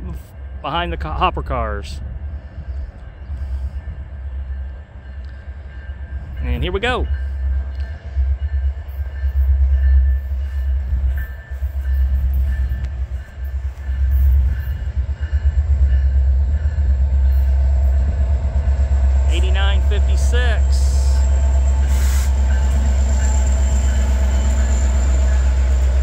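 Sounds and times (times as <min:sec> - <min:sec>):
diesel locomotive rumbling: 0:00.0 - 0:26.0.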